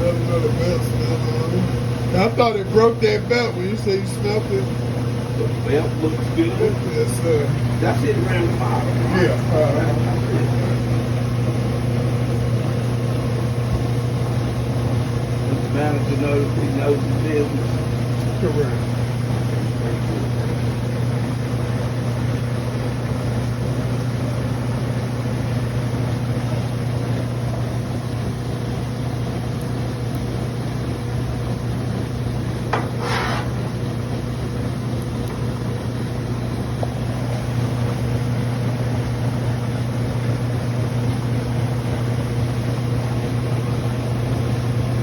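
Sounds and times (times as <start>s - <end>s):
washing machine motor hum: 0.0s - 45.0s.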